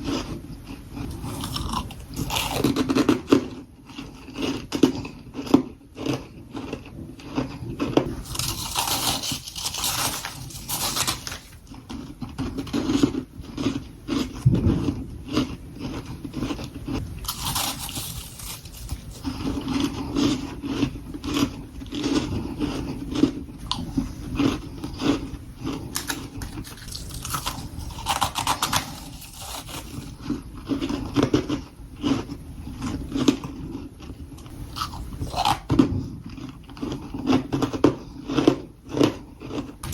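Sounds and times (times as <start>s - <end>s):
chewing frost crunching: 0.0s - 39.9s.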